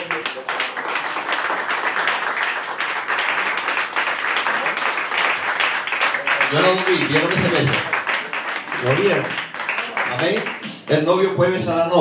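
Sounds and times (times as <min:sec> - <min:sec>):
crowd applauding: 0:00.0 - 0:11.7.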